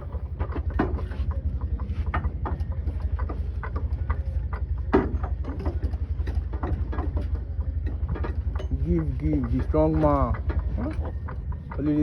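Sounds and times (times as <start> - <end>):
engine running: 0.0 - 12.0
metallic clicks and knocks: 0.0 - 12.0.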